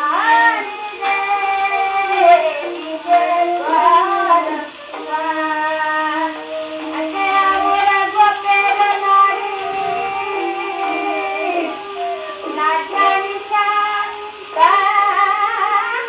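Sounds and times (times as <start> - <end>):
woman singing on old record: 0.0 - 16.0.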